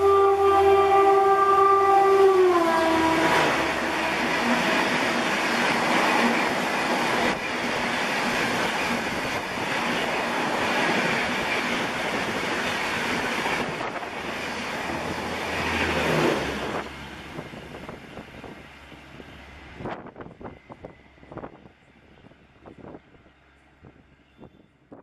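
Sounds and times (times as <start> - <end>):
train passing at high speed: 0.0 - 25.0.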